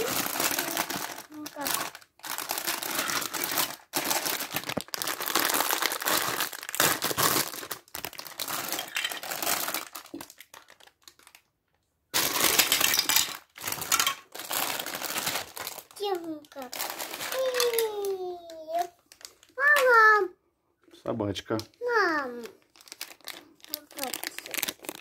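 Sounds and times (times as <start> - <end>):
plastic bag crinkling: 0.0 - 11.5, 12.1 - 19.6, 21.5 - 25.0.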